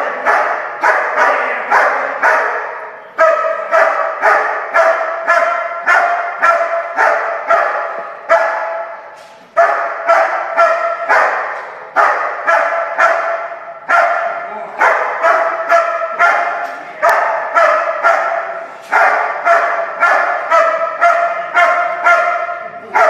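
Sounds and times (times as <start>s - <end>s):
dog barking with echo: 0.0s - 23.0s.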